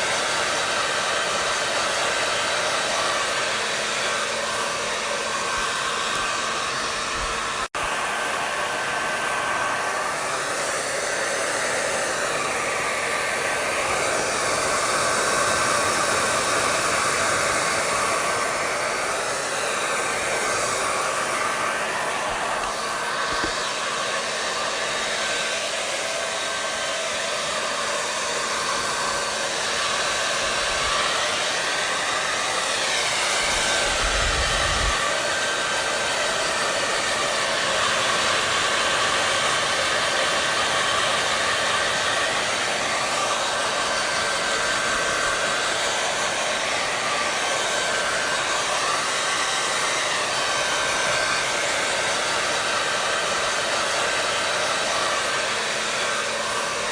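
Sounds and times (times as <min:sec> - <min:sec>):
hair dryer blowing: 0:00.0 - 0:56.9.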